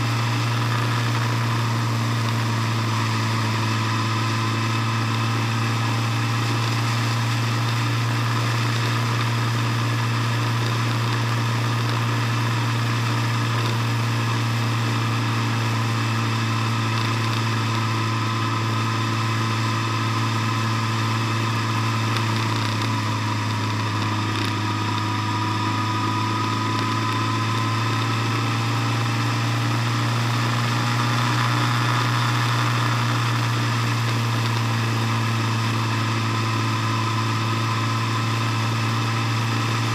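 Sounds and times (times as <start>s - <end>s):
vehicle engine humming: 0.0s - 39.9s.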